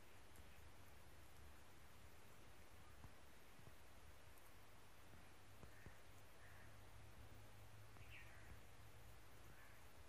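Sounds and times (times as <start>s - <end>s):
faint background hum and hiss: 0.0s - 10.0s.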